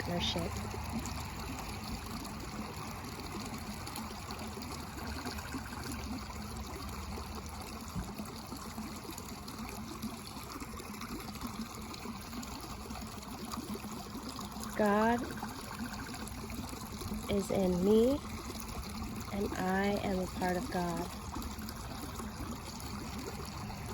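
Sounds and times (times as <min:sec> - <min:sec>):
running water trickling: 0:00.0 - 0:23.9.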